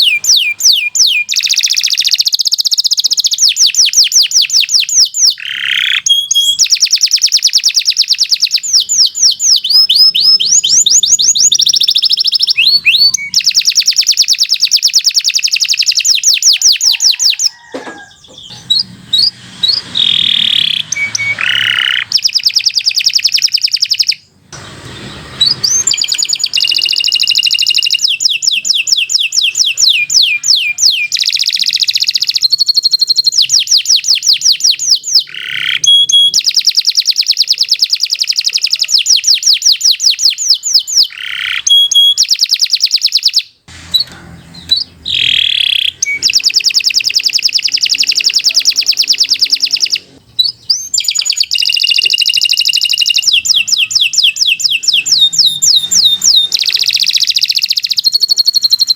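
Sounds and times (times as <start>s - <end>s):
canary singing trills: 0.0s - 58.9s.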